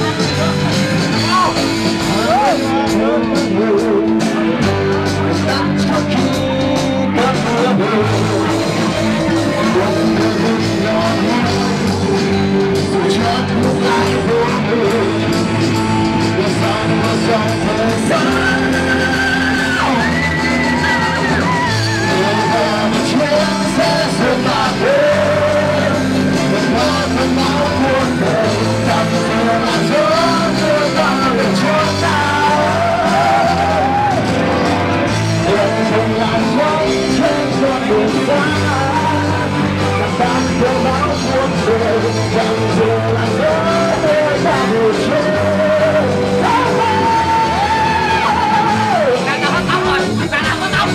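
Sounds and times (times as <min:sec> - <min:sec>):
bass line: 0:00.0 - 0:50.9
person singing: 0:00.0 - 0:50.9
rock band playing live: 0:00.0 - 0:50.9.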